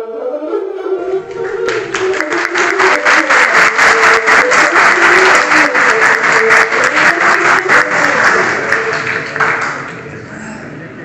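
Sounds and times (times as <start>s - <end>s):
faint music: 0.0s - 11.0s
crowd clapping: 1.2s - 10.2s.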